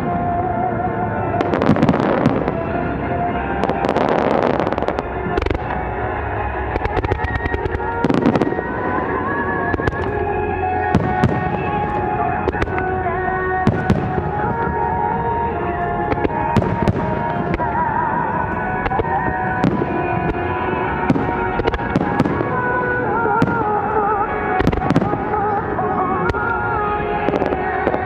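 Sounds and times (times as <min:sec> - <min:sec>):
fireworks bangs: 0:00.0 - 0:28.0
melodic music: 0:00.0 - 0:28.0.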